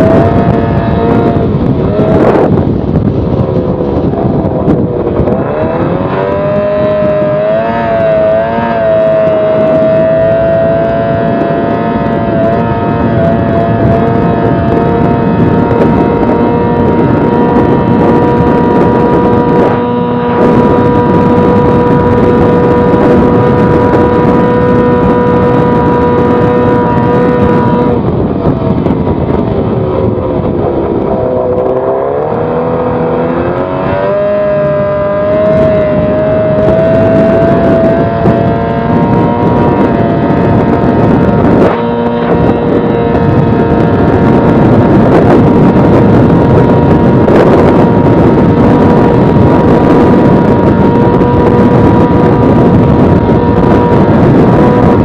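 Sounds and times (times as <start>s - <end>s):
outboard motor high whine: 0.0s - 55.0s.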